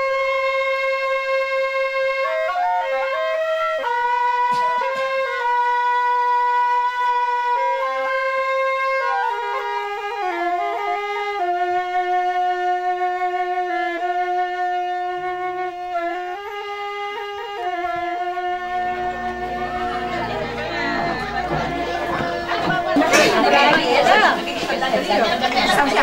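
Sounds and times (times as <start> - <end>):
flute-like woodwind melody: 0.0 - 24.9.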